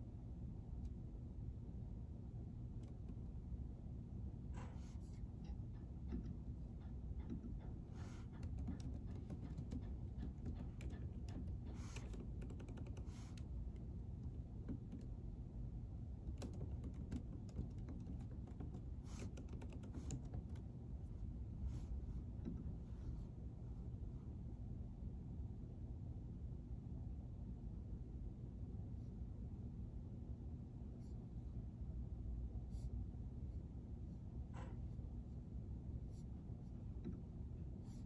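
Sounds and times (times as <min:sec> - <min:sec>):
low room hum: 0:00.0 - 0:38.0.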